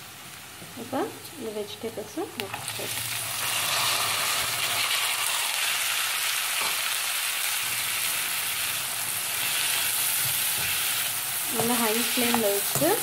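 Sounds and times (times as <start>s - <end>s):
vegetables sizzling in frying pan: 0.0s - 13.0s.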